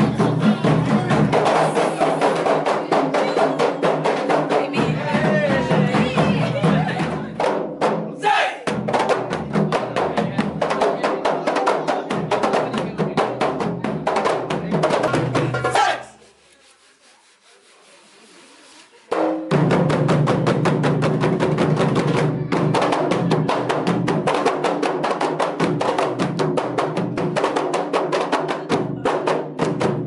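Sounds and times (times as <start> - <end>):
frame drums fast rhythm: 0.0 - 16.5, 19.0 - 30.0.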